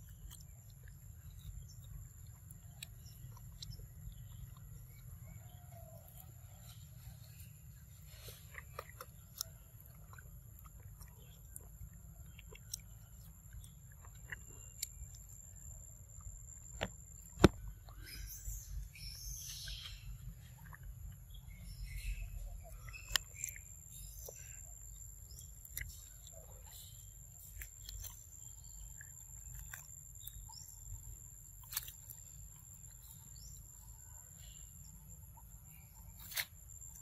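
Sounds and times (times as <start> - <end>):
birds chirping: 0.0 - 36.9
monkey chewing fruit: 0.0 - 37.0.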